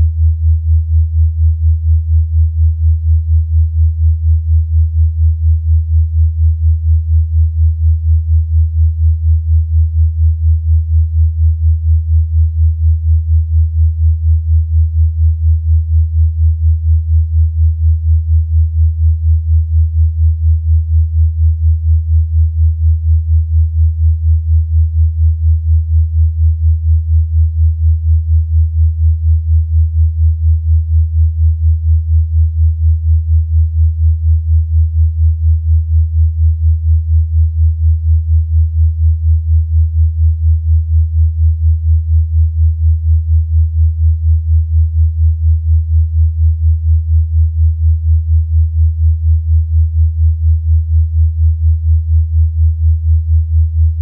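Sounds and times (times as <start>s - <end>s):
pulsing low sine tone: 0.0s - 54.0s.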